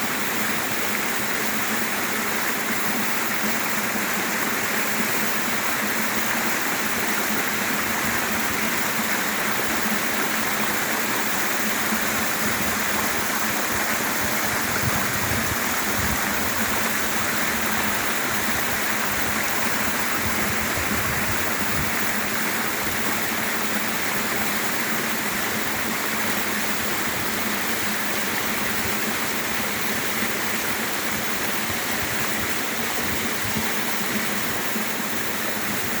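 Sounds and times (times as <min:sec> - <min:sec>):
waterfall rushing: 0:00.0 - 0:30.8.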